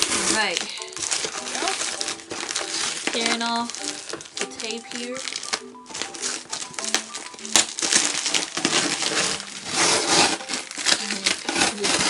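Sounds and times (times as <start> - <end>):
tape ripping off cardboard box: 0.0 - 4.5, 5.2 - 12.0.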